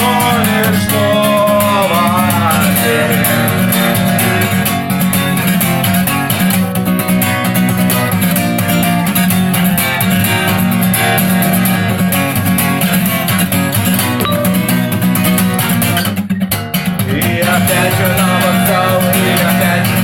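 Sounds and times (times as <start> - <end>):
instrumental guitar playing: 0.0 - 17.1.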